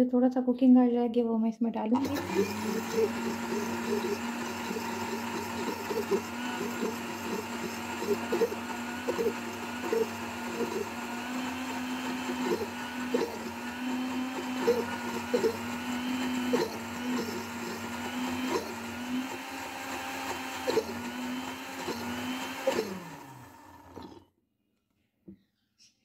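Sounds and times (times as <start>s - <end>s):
mixer grinder motor running: 2.0s - 24.3s.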